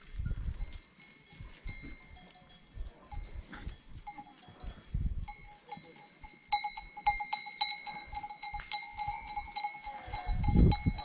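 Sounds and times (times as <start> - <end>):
goat bells clanking: 0.6 - 11.0.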